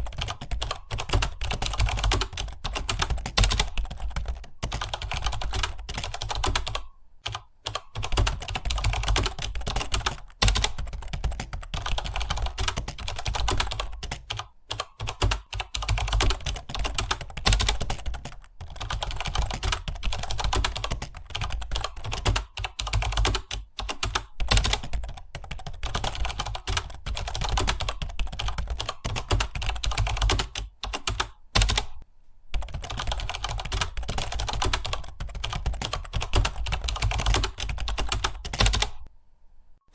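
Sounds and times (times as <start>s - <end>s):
typing on computer keyboard: 0.0s - 32.0s, 32.6s - 39.1s.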